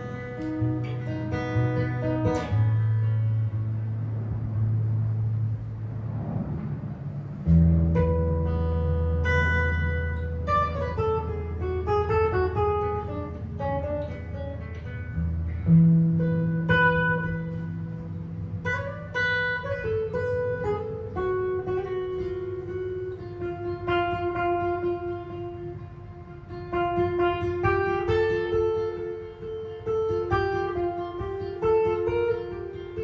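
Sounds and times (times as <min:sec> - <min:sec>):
jazz guitar playing: 0:00.0 - 0:33.0.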